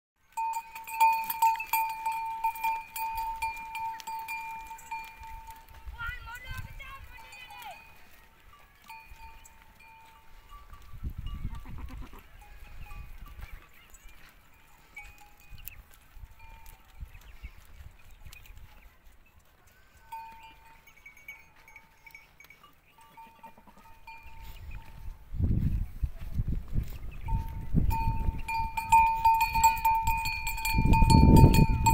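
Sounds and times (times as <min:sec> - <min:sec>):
metal goat bell clanking: 0:00.2 - 0:18.7, 0:19.3 - 0:25.2, 0:27.2 - 0:31.9.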